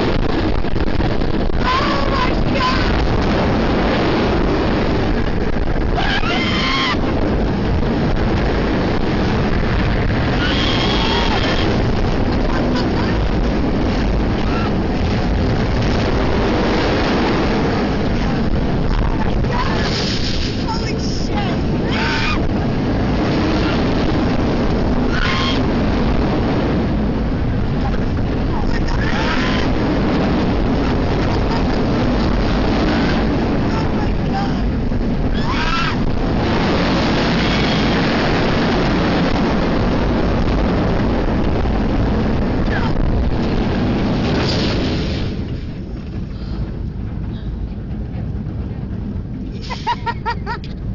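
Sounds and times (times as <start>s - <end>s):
roller coaster rumble: 0.0s - 50.9s
wind on microphone: 0.0s - 50.9s.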